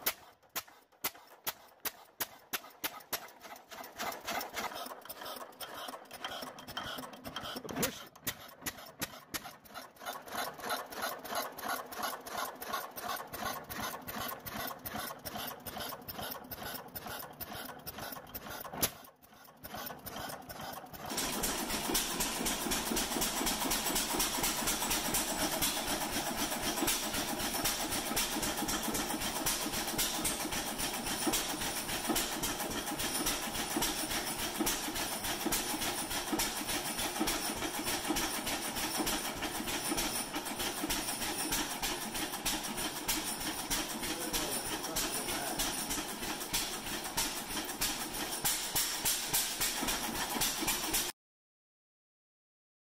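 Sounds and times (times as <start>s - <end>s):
stationary gas engine running: 0.0s - 51.1s.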